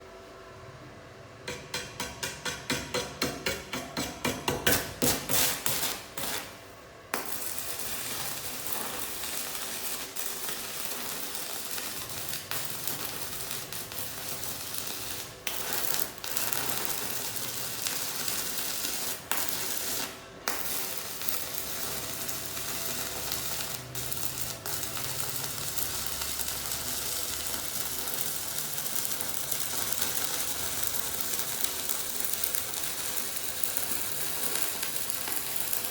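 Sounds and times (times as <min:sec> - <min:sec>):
welding arc crackling: 0:04.5 - 0:35.9.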